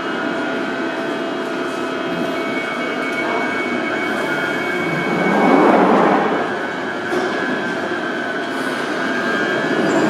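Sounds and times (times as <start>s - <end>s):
train equipment humming and whining: 0.0s - 10.0s
station background noise: 0.1s - 10.0s.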